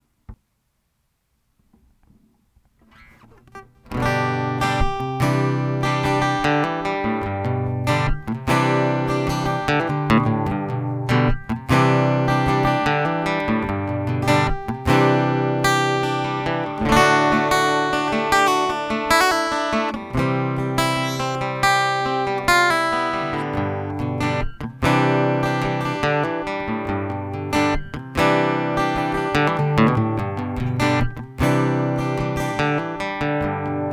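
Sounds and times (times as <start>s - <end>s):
acoustic guitar strummed chords: 2.9s - 33.9s.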